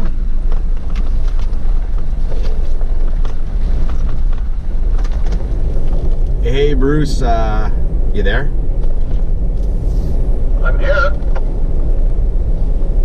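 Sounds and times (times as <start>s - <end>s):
vehicle road and wind noise: 0.0s - 13.0s.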